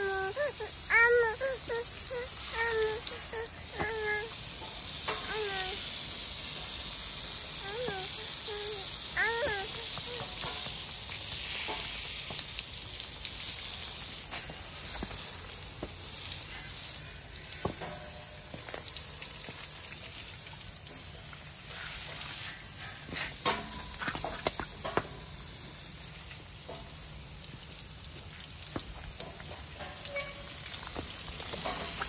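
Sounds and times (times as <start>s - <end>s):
hose nozzle spraying water: 0.0s - 32.0s.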